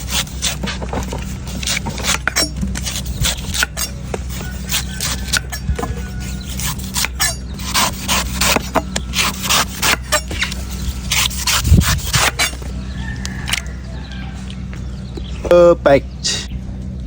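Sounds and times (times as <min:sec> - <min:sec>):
knife chopping coconut: 0:00.0 - 0:13.7
knife scraping strokes: 0:00.0 - 0:14.5.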